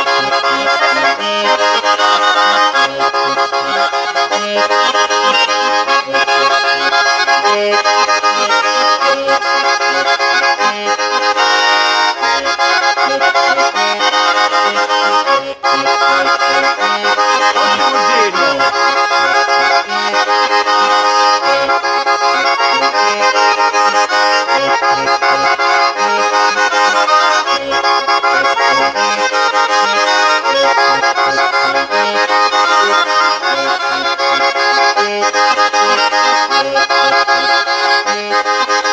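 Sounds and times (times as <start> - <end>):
button accordion playing: 0.0 - 38.9.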